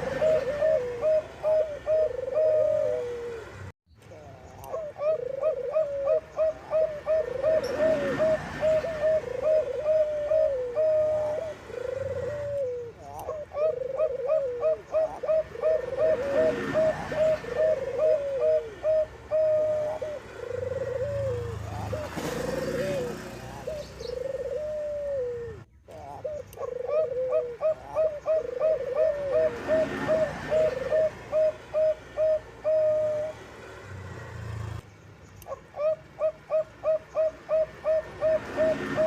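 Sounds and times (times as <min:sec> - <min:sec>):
doves cooing: 0:00.0 - 0:34.8, 0:35.4 - 0:39.0.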